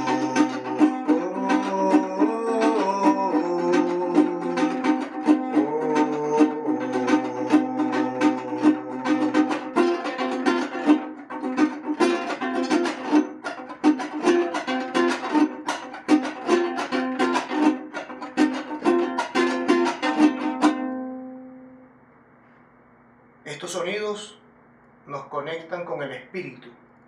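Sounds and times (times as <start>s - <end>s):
plucked string instrument: 0.0s - 22.0s.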